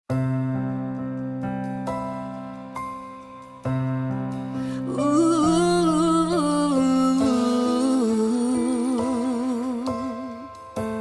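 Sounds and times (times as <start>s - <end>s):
slow gospel piano chords: 0.1s - 11.0s.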